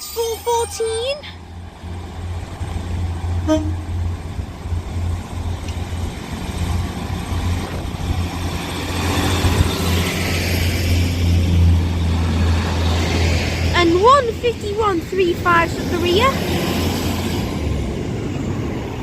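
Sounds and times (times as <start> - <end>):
diesel train engine drone: 0.0 - 19.0
train wheel noise: 0.0 - 19.0.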